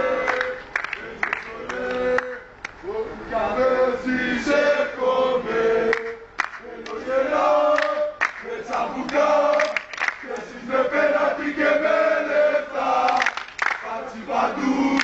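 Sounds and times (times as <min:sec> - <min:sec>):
crowd chanting: 0:00.0 - 0:15.0.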